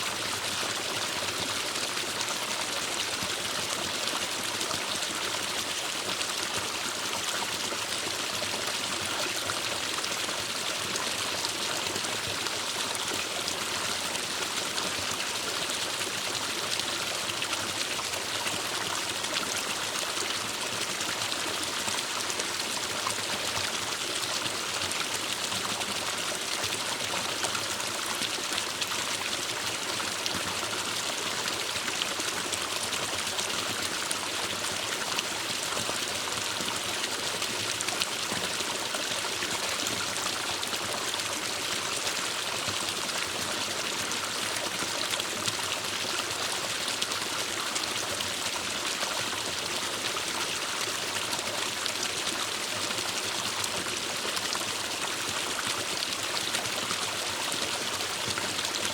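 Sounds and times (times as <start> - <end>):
forest stream flowing: 0.0 - 58.9.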